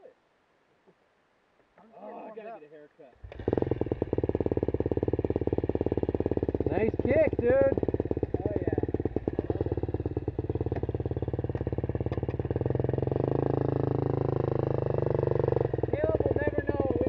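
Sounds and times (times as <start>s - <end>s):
dirt bike engines running: 3.2s - 17.0s
dirt bike revving and riding off: 3.2s - 17.0s.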